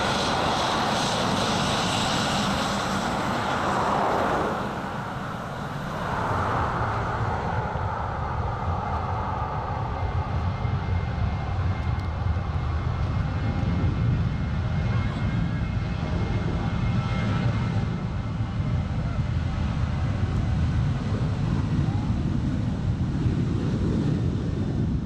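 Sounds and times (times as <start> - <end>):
jet engine rushing: 0.0 - 25.0
jet engines rumble and whine: 0.0 - 25.0.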